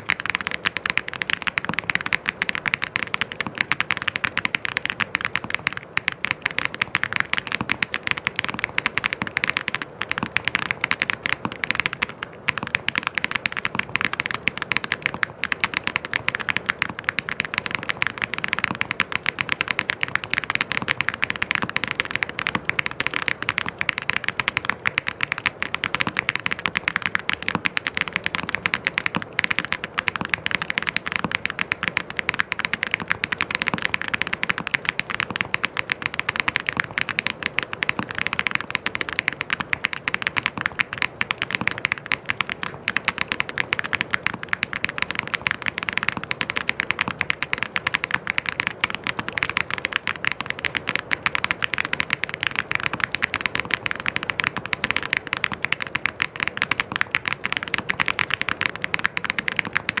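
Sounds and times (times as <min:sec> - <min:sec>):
mechanical keyboard typing: 0:00.0 - 1:00.0.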